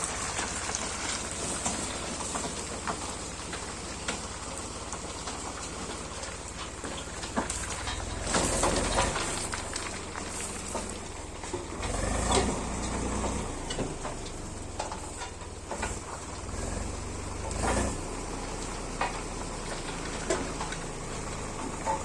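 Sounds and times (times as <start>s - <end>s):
tractor diesel engines under load: 0.0s - 22.0s.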